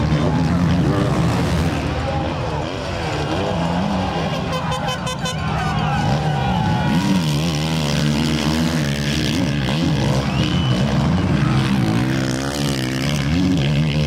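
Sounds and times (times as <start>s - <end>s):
motocross bikes revving past: 0.0s - 14.0s.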